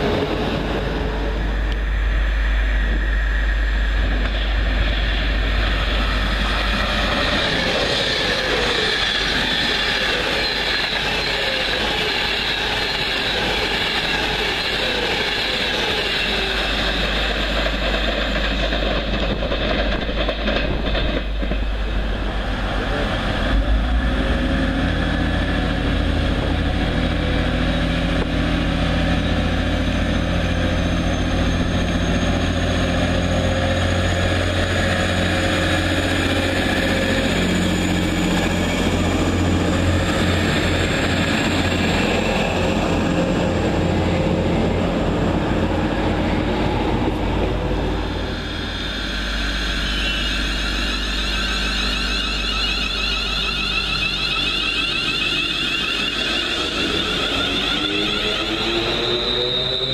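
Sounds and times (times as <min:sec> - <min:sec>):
diesel train engine humming: 0:00.0 - 0:59.9
electric train rushing past: 0:00.0 - 0:59.9.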